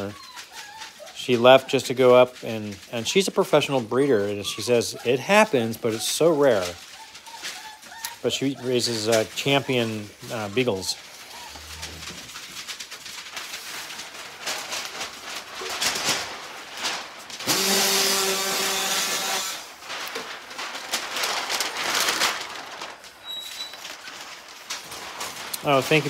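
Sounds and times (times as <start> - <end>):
paper crinkling and rustling: 0.0 - 26.0.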